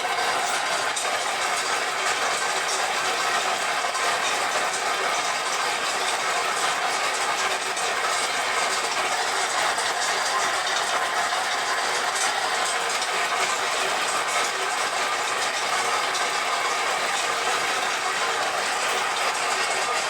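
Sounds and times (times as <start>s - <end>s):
machinery clattering: 0.0s - 20.0s.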